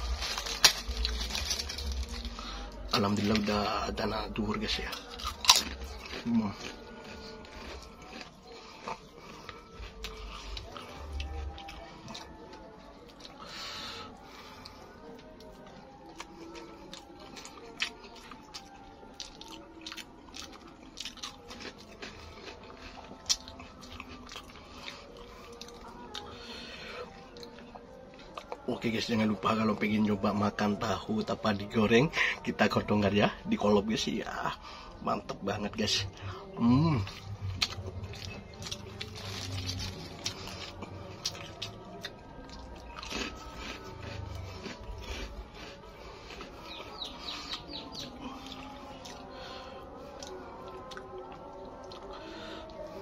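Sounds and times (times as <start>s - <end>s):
man chewing food: 0.0s - 53.0s.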